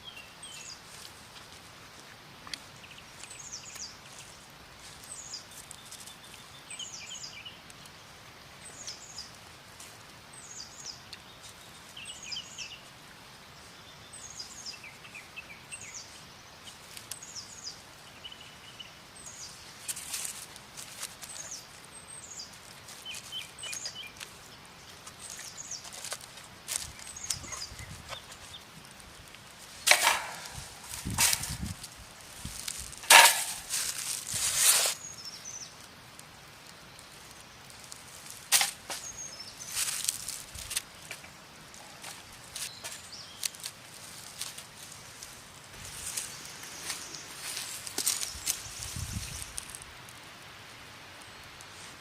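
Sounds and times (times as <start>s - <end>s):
outdoor hiss: 0.0s - 52.0s
songbirds chirping: 0.0s - 52.0s.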